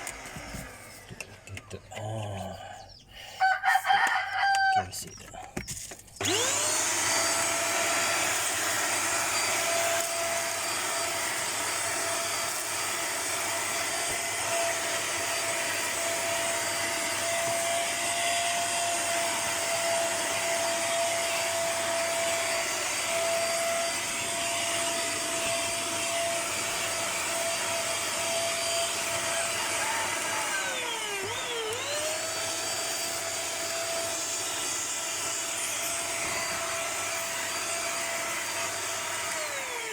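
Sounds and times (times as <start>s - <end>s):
vacuum cleaner motor whine: 0.0s - 1.7s, 6.2s - 39.9s.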